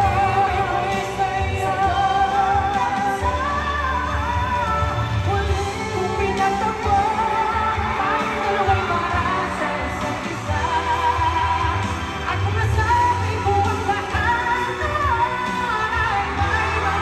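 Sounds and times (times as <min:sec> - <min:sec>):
person singing: 0:00.0 - 0:17.0
pop band over sound system: 0:00.0 - 0:17.0.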